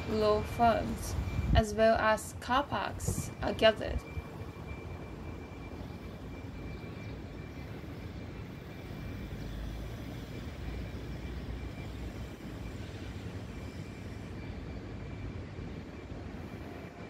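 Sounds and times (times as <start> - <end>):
low rumble of traffic: 0.0 - 17.0
thin high-pitched whine: 0.0 - 17.0.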